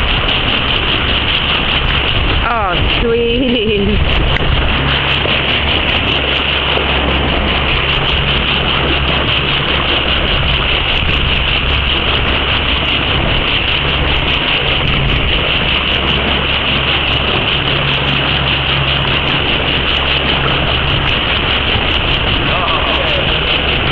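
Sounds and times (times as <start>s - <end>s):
boat engine running: 0.0s - 23.9s
water rushing along hull: 0.0s - 23.9s.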